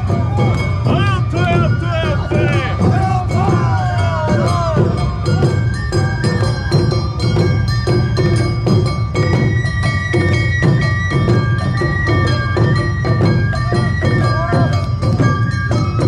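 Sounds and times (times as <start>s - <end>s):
bamboo flute melody: 0.0s - 16.0s
taiko drums: 0.0s - 16.0s.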